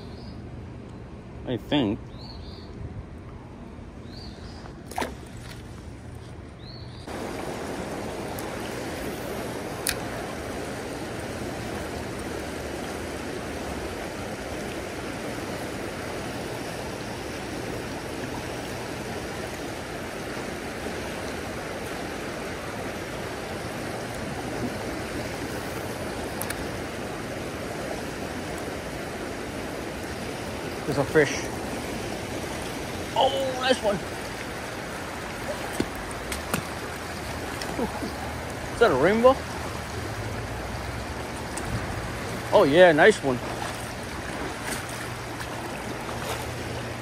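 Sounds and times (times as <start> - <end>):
creek rushing over rocks: 7.1 - 47.0.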